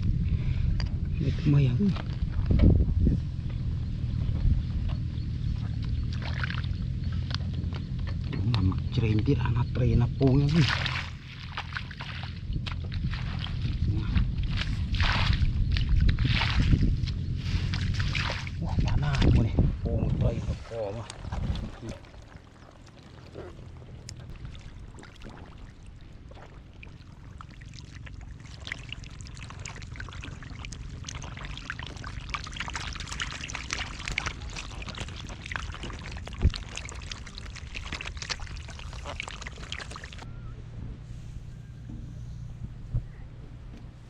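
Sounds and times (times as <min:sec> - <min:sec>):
steady low hum: 0:00.0 - 0:44.0
water splashing and trickling: 0:05.0 - 0:40.3.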